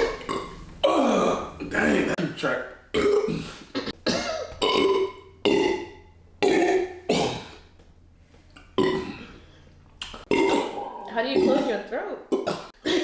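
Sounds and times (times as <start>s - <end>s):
men burping loudly: 0.0s - 2.2s, 2.9s - 7.6s, 8.6s - 9.5s, 10.2s - 13.0s.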